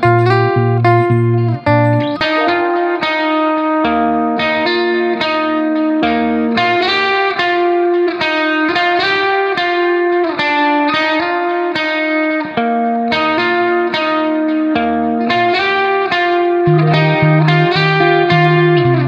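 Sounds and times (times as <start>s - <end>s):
plucked guitar-like melody: 0.0s - 19.0s.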